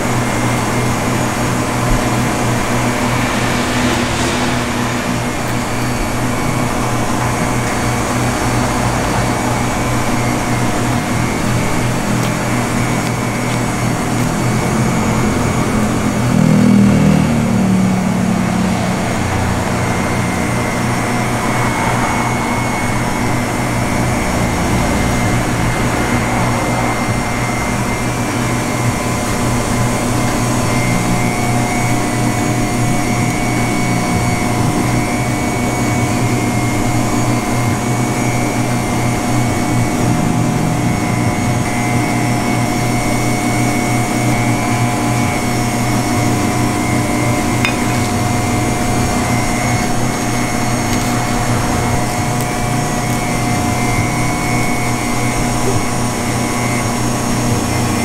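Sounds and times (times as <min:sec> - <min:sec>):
electric machine hum: 0:00.0 - 0:58.0
noisy whir: 0:00.0 - 0:58.0.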